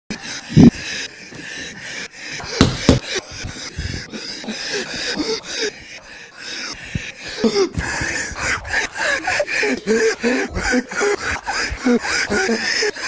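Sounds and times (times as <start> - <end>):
man gasping and panting: 0.1 - 13.0.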